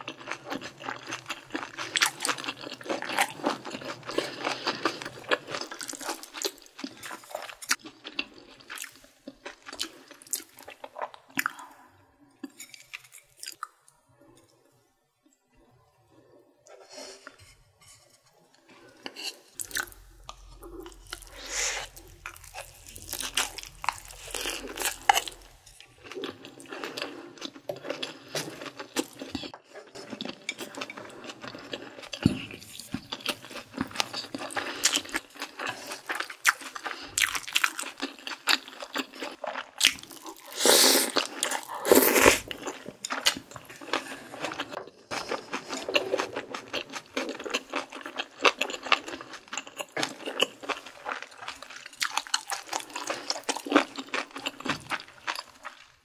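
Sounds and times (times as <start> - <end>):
person chewing food: 0.0 - 14.6, 18.5 - 56.0.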